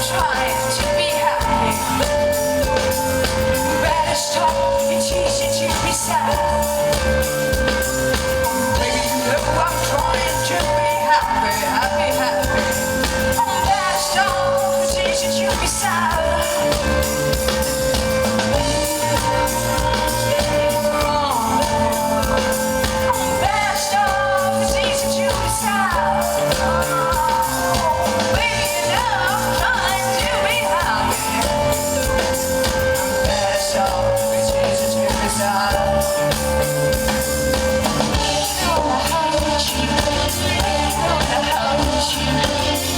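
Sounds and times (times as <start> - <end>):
person singing: 0.0 - 42.9
steady drum beat: 0.0 - 42.9.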